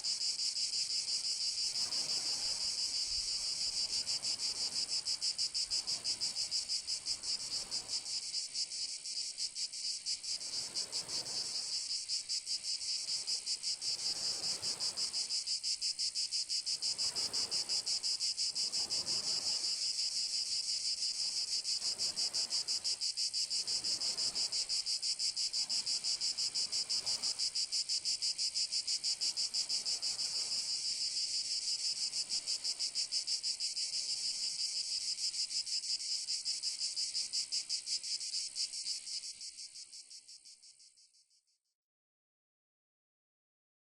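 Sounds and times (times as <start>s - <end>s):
cicadas buzzing: 0.0s - 41.3s.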